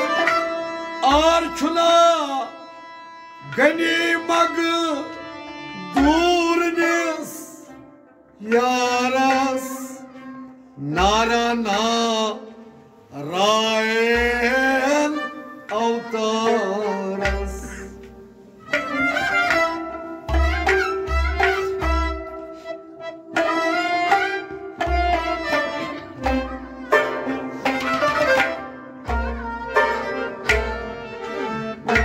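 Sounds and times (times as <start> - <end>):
ornamented folk melody: 0.0 - 32.0.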